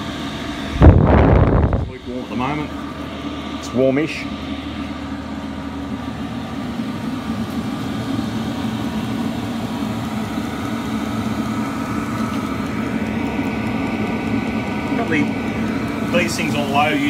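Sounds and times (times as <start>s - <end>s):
diesel air heater humming: 0.0s - 17.0s.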